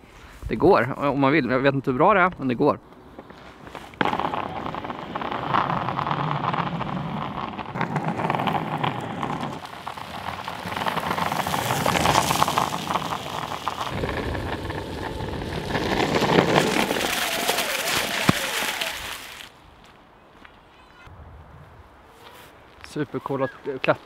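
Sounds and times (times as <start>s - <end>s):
skateboard wheels rolling on pavement: 2.2s - 22.8s.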